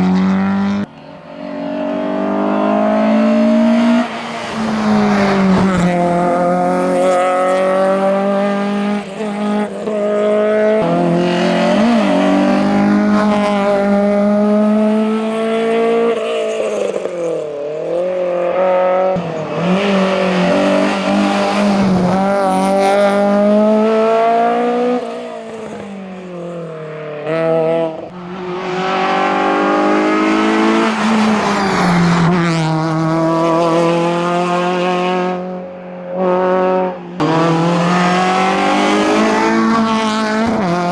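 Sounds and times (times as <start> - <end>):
rally car revving through gears: 0.0 - 40.9
second car accelerating hard: 0.0 - 40.9.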